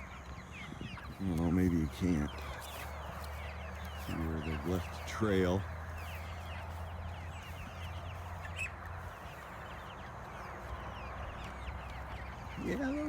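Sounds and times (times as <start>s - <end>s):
chicks peeping and chirping: 0.0s - 13.0s.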